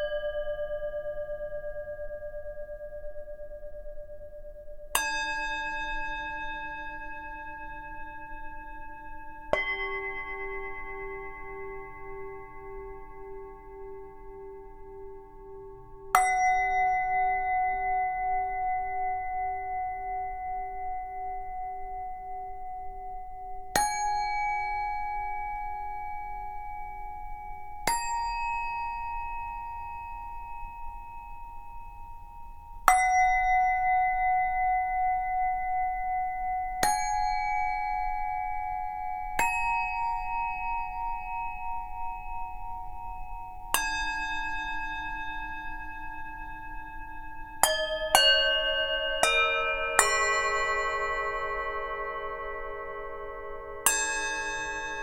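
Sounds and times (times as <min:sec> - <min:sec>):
singing bowls ringing: 0:00.0 - 0:04.0, 0:04.9 - 0:21.9, 0:23.8 - 0:55.0.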